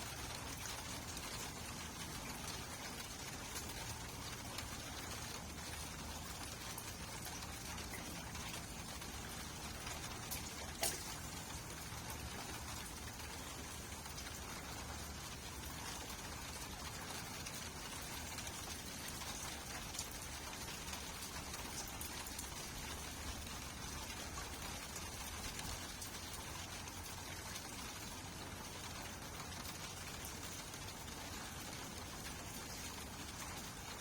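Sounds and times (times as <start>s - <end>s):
steady rain: 0.0s - 34.0s
water drips: 0.0s - 34.0s.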